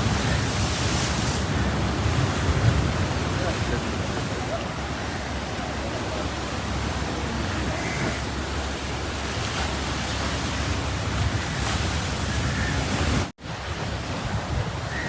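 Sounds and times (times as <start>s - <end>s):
sea surf: 0.0s - 15.0s
wind on microphone: 0.0s - 15.0s.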